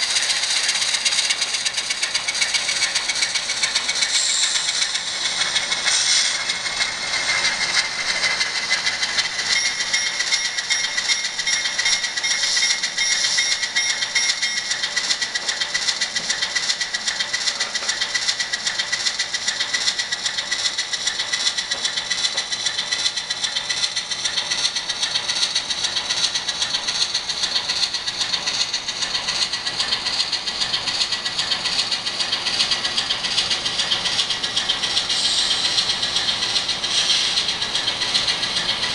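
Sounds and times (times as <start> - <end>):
tinny model locomotive engine chug: 0.0 - 38.9.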